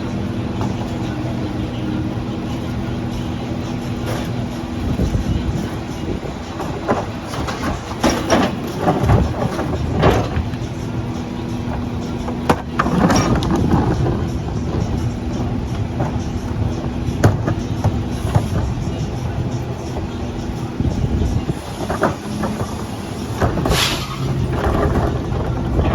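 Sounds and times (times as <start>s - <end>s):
garbage truck running: 0.0s - 25.9s
sharp metallic clanks: 3.7s - 25.9s.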